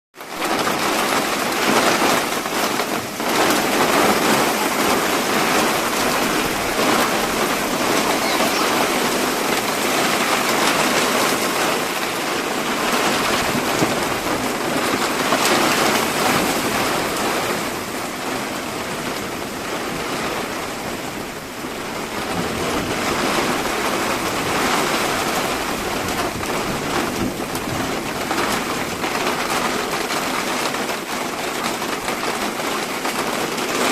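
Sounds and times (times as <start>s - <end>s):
hailstones hitting hard surfaces: 0.2s - 33.9s
heavy rain downpour: 0.2s - 33.9s.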